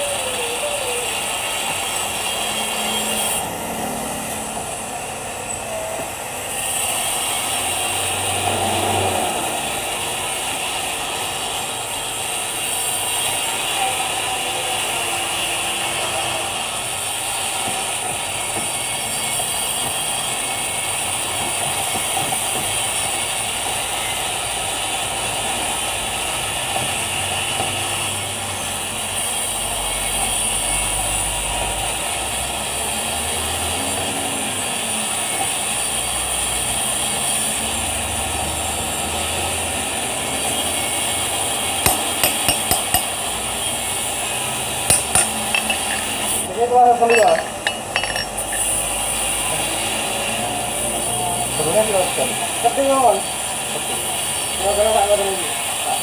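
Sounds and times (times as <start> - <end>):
metal lathe running: 0.0 - 56.0.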